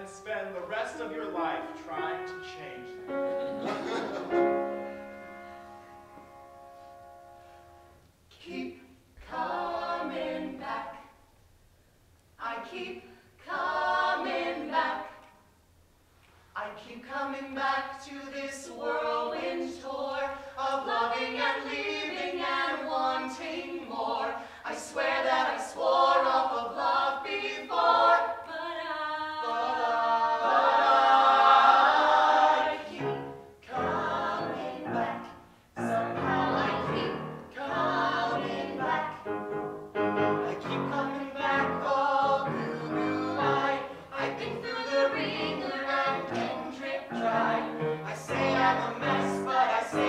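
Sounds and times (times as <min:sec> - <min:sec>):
men and women singing in harmony: 0:00.0 - 0:05.6, 0:08.3 - 0:11.2, 0:12.4 - 0:15.3, 0:16.6 - 0:39.6, 0:40.2 - 0:50.0.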